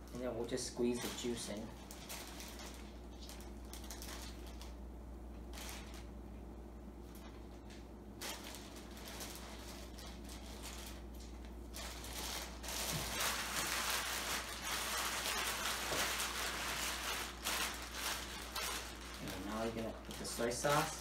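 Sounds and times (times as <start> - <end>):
plastic bag crinkling: 0.0 - 6.2, 7.1 - 21.0.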